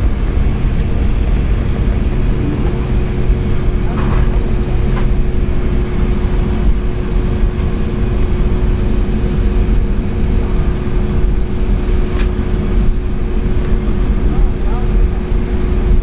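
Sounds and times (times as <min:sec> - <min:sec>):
jet engine low rumble: 0:00.0 - 0:16.0
steady cabin hum: 0:00.0 - 0:16.0.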